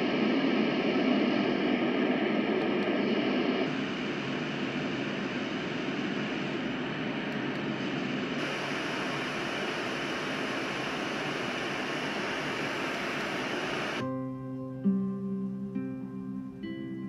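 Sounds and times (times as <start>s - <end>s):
sound machine playing steady noise: 0.0s - 17.0s.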